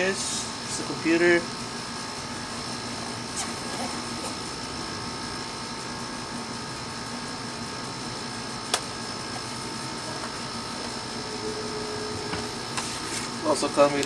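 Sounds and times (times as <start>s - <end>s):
machine hum with tones: 0.0s - 14.0s.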